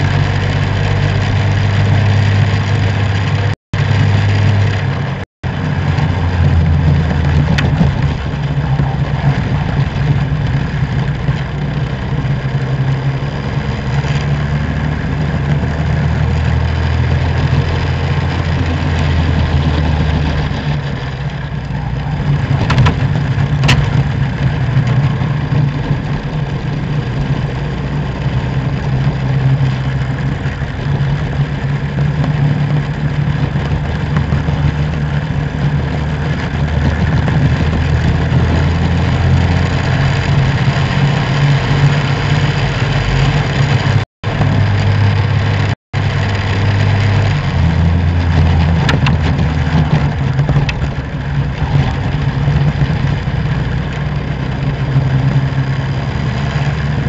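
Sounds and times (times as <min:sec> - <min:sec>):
go-kart engines racing: 0:03.9 - 0:57.0.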